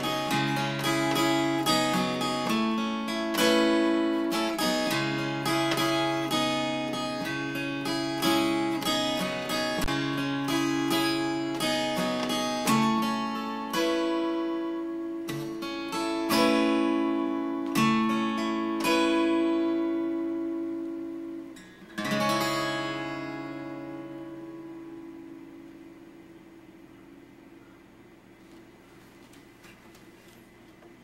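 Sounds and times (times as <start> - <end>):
acoustic guitar playing: 0.0 - 27.7.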